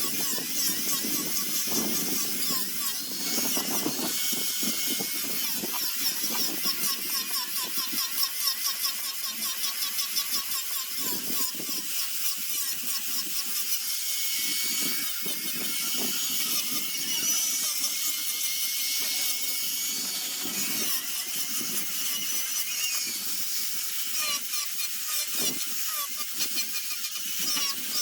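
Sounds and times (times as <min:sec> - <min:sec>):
power sander grinding wood: 0:00.0 - 0:28.0.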